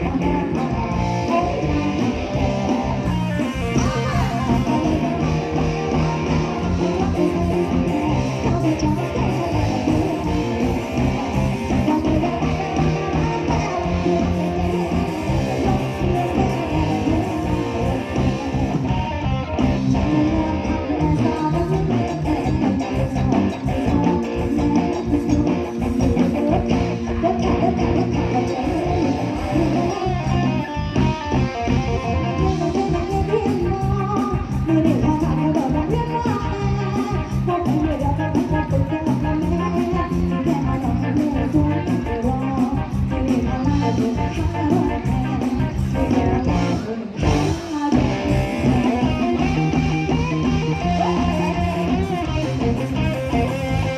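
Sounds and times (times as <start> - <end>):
bass guitar: 0.0 - 53.9
electric guitar: 0.0 - 53.9
fast drum beat: 0.0 - 53.9.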